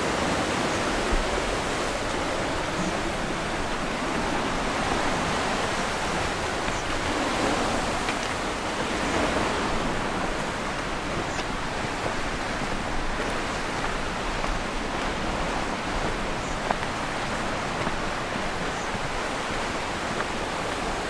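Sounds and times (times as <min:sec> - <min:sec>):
sea waves washing ashore: 0:00.0 - 0:21.0.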